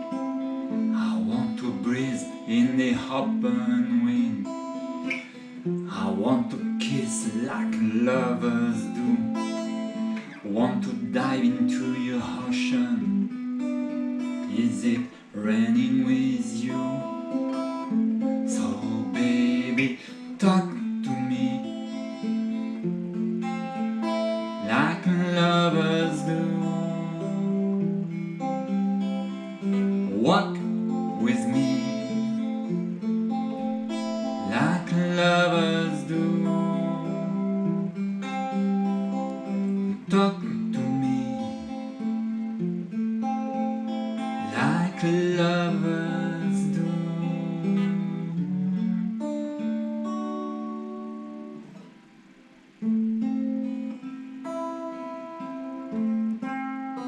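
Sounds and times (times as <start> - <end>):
acoustic guitar strummed and picked: 0.0 - 57.0.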